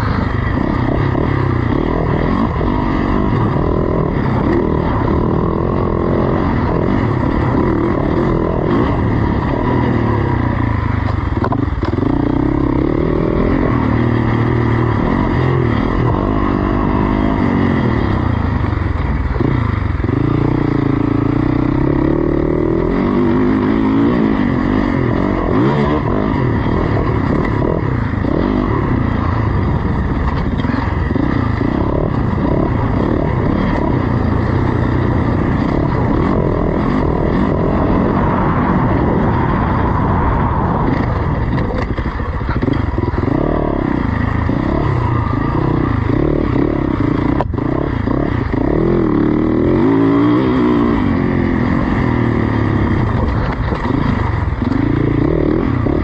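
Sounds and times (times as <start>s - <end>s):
motorcycle engine revving hard: 0.0s - 56.0s.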